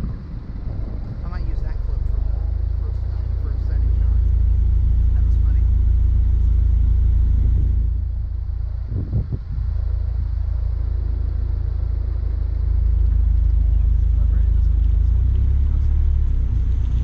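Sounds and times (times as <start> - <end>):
car driving low rumble: 0.0 - 17.0.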